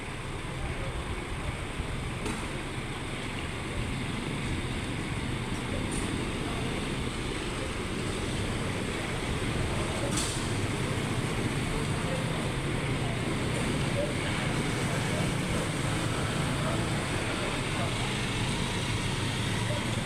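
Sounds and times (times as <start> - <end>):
traffic road rumble: 0.0 - 20.0.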